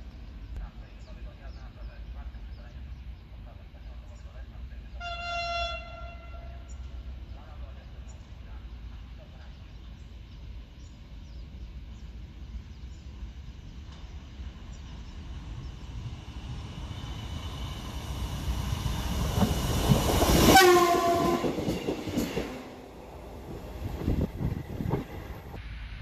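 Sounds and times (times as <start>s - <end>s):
diesel railcar passing: 0.0s - 26.0s.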